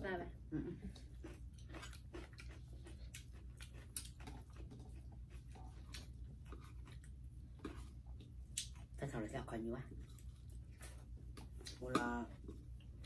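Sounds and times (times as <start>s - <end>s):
low steady hum: 0.0s - 13.0s
person chewing food: 0.8s - 9.1s, 9.8s - 13.0s.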